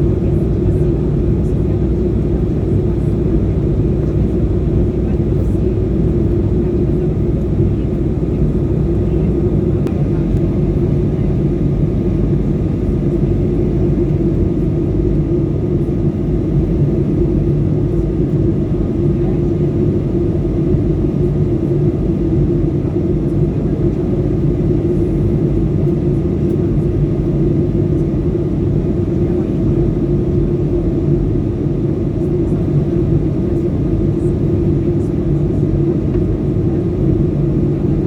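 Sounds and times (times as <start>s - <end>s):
jet engine drone in cabin: 0.0s - 38.0s.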